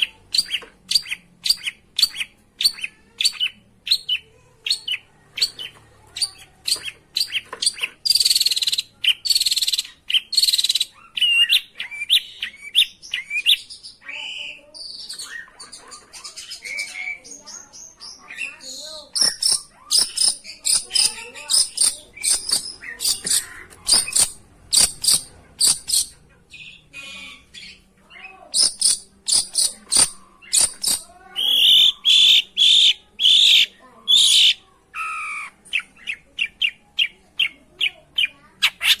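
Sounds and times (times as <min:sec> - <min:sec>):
bird song of sharp high notes: 0:00.0 - 0:39.0.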